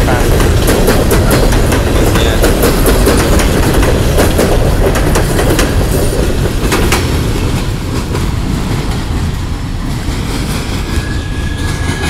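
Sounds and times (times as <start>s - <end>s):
freight train rumble: 0.0s - 12.0s
wheels clacking over rail joints: 0.0s - 12.0s.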